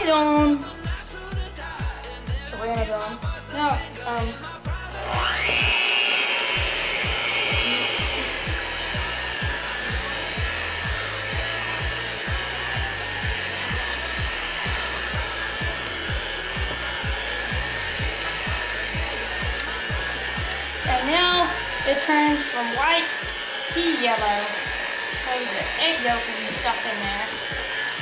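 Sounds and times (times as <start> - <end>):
electric hand mixer whining: 0.0 - 28.0
mixer beaters knocking bowl: 5.1 - 28.0.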